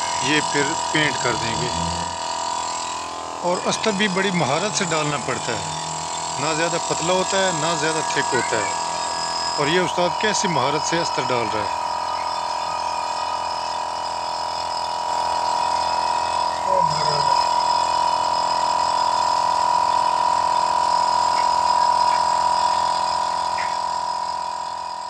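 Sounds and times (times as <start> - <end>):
air compressor humming: 0.0 - 25.0.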